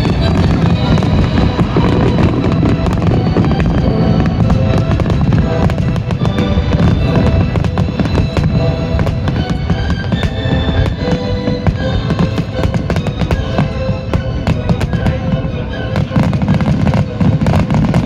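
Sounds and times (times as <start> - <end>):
fireworks booming and crackling: 0.0 - 18.0
music playing: 0.0 - 18.0.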